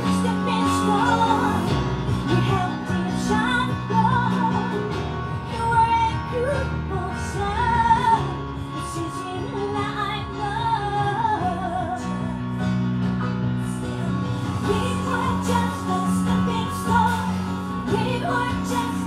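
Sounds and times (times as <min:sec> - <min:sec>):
woman singing: 0:00.0 - 0:12.6, 0:13.8 - 0:19.0.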